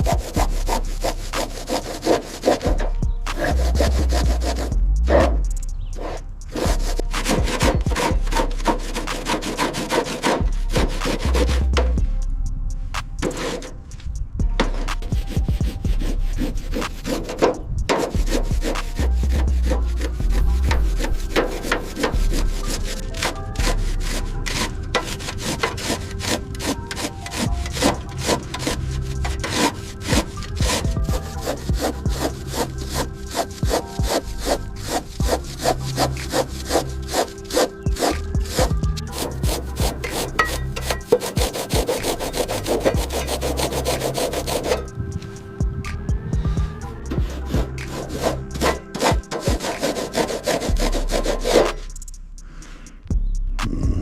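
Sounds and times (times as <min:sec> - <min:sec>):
rapid rubbing strokes: 0:00.0 - 0:53.0.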